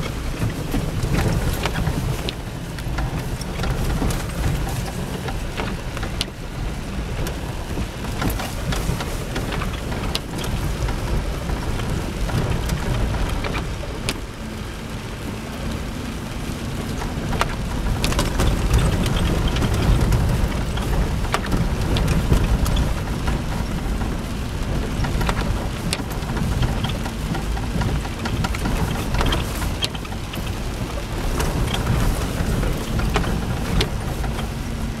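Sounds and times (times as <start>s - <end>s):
engine and road rumble: 0.0s - 35.0s
rain tapping on windshield: 0.0s - 35.0s.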